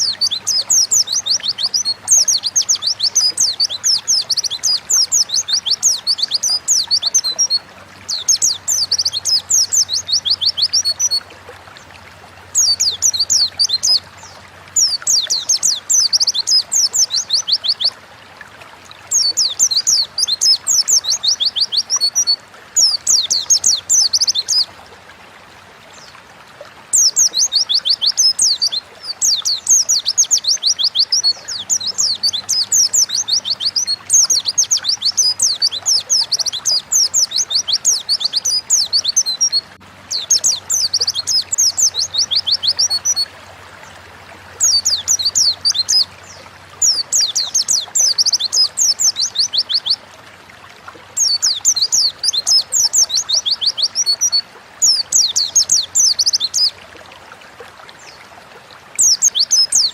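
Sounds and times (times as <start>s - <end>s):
bird singing rapid high song: 0.0s - 11.2s, 12.5s - 18.0s, 19.1s - 24.7s, 26.9s - 43.3s, 44.6s - 50.0s, 51.2s - 56.8s, 59.0s - 59.9s.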